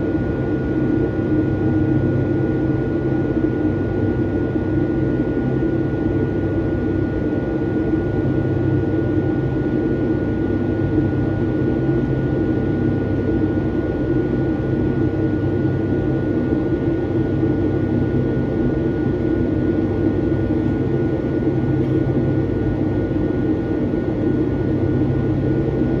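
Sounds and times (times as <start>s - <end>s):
airplane cabin low roar: 0.0s - 26.0s.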